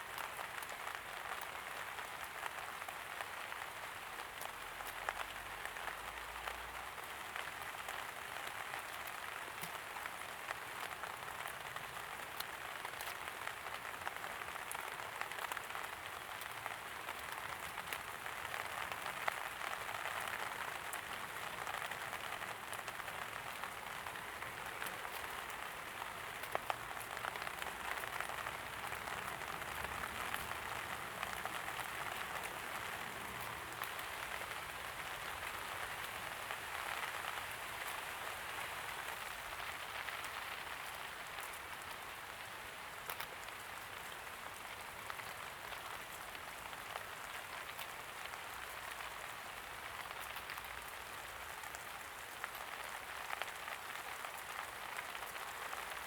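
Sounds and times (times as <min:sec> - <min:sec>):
light rain hiss: 0:00.0 - 0:56.0.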